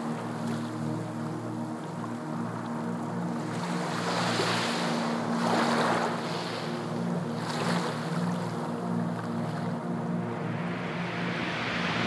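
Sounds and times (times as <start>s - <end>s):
steady low hum: 0.0s - 12.0s
waves washing and surging: 0.0s - 12.0s.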